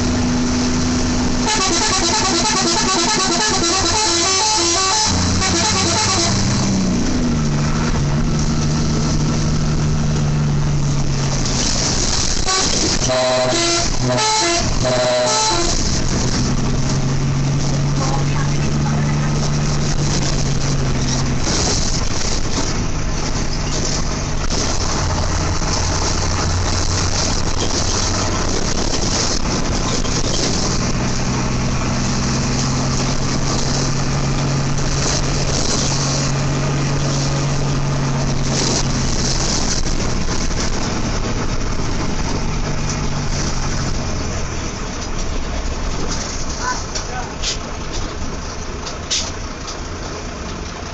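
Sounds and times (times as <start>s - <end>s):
bus engine humming: 0.0s - 50.9s
road traffic rush: 0.0s - 50.9s.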